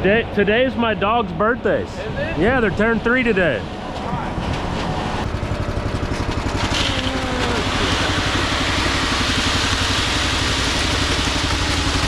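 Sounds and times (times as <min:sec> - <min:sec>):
engine running with low throb: 0:00.0 - 0:12.0.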